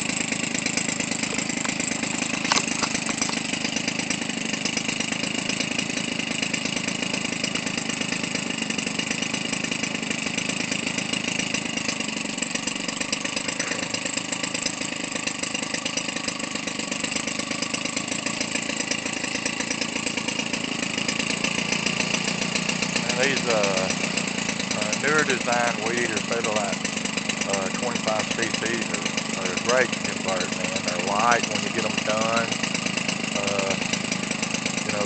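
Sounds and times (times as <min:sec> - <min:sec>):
model plane engine running: 0:00.0 - 0:35.0.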